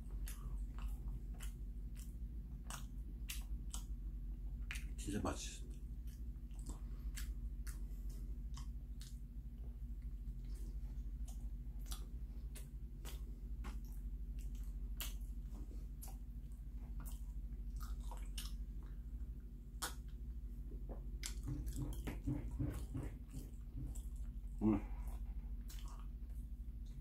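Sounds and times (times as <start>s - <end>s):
man chewing bread: 0.0s - 27.0s
steady low hum: 0.0s - 27.0s.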